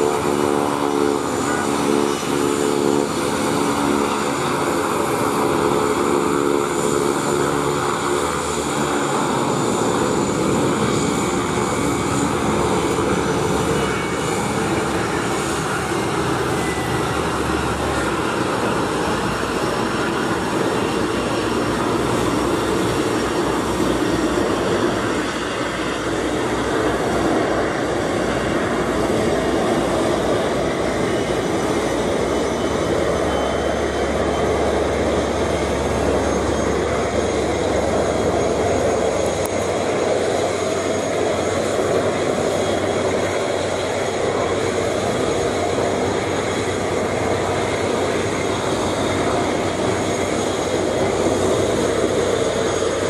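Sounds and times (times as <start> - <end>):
turboprop engines droning: 0.0 - 53.0.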